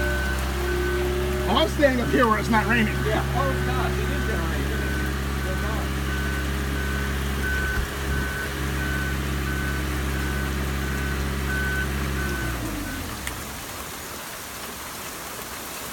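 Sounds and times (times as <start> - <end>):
warning alarm beeping: 0.0 - 13.2
engine running: 0.0 - 14.3
falling rain: 0.0 - 15.9.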